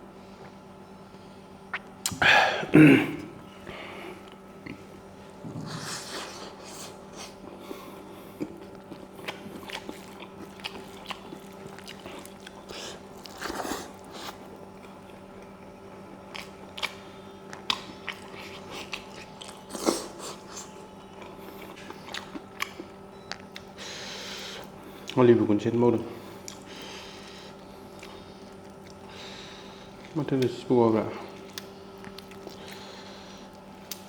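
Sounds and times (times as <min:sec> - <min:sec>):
faint steady hum: 0:00.0 - 0:34.0
person chewing food: 0:03.3 - 0:25.2, 0:26.1 - 0:34.0.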